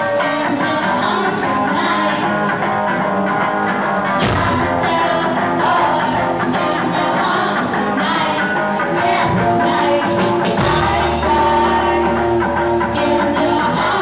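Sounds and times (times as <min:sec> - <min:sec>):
drums: 0:00.0 - 0:14.0
rock band playing live: 0:00.0 - 0:14.0
strummed electric guitar: 0:00.0 - 0:14.0.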